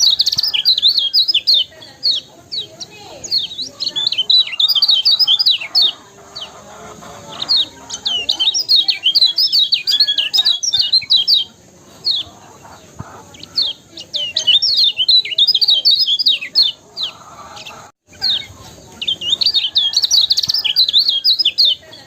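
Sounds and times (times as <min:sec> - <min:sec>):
bird chirping rapidly: 0:00.0 - 0:22.0.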